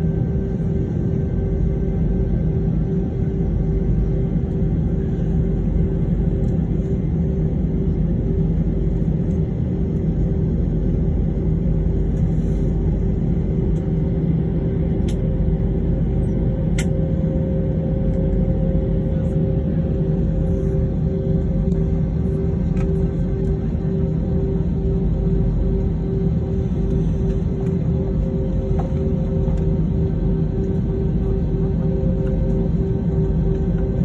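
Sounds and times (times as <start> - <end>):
aircraft cabin low rumble: 0.0 - 34.0
steady hums: 0.0 - 34.0.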